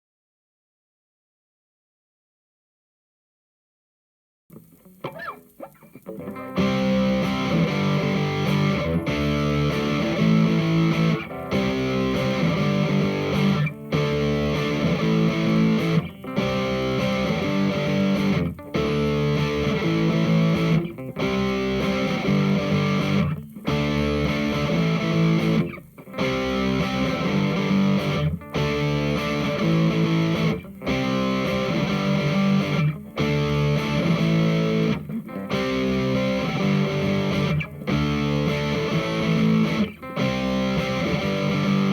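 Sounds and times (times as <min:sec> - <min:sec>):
distorted electric guitar riff: 0:04.5 - 0:41.9.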